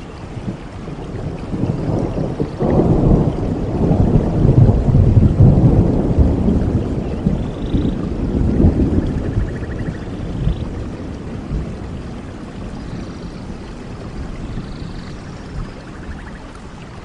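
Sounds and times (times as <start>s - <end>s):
steady rain: 0.0s - 17.0s
thunder rumbling: 0.4s - 17.0s.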